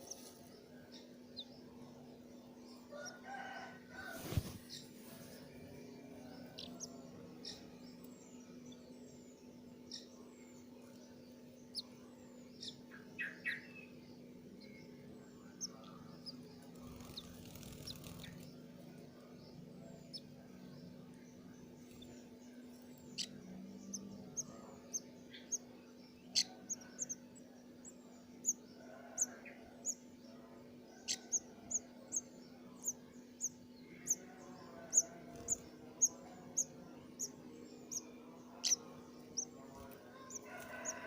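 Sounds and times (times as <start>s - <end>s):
faint low hum: 0.0s - 41.0s
nestling birds chirping: 0.0s - 41.0s.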